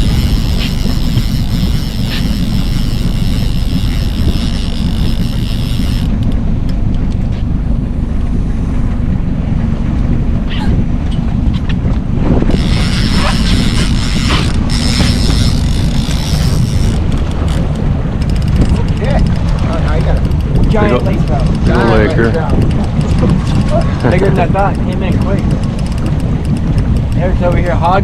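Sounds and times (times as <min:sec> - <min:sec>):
boat motor running: 0:00.0 - 0:28.0
wind buffeting microphone: 0:00.0 - 0:28.0.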